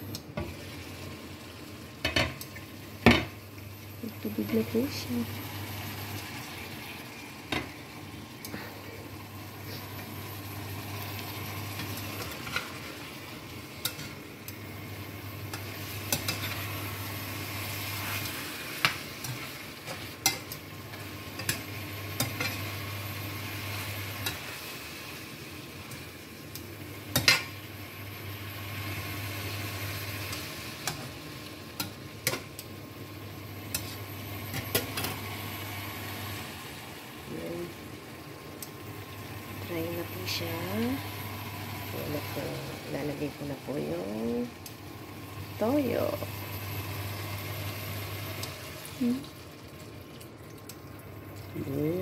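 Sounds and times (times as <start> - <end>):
chicken sizzling in frying pan: 0.0 - 52.0
low hob hum: 0.0 - 52.0.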